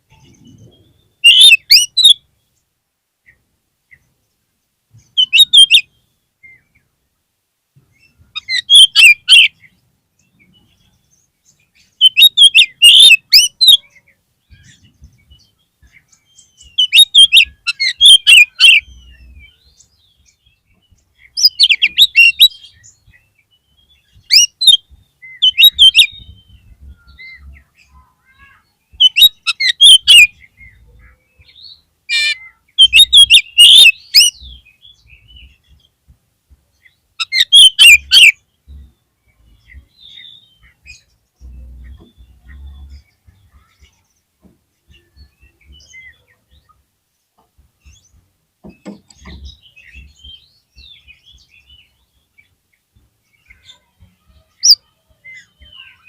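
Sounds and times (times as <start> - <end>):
bird singing rapid notes: 0.0 - 4.2, 5.0 - 6.9, 7.9 - 36.0, 36.7 - 46.8, 47.6 - 56.0.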